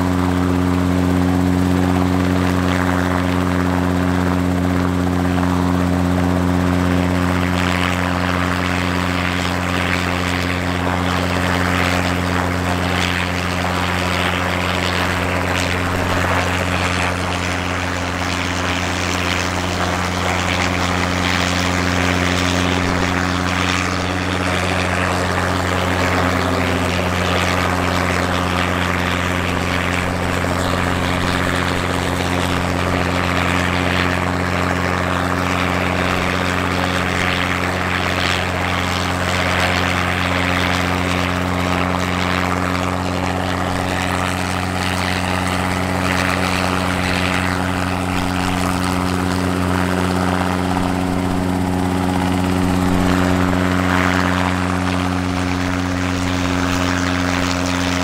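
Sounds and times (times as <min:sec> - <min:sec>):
helicopter engine drone: 0:00.0 - 0:58.0
helicopter rotor whirr: 0:00.0 - 0:58.0.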